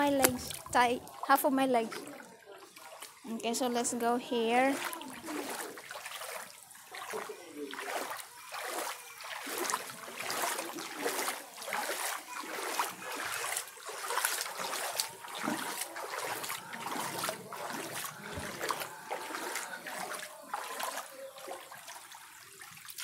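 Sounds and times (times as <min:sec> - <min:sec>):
wading through water: 0:00.0 - 0:23.0.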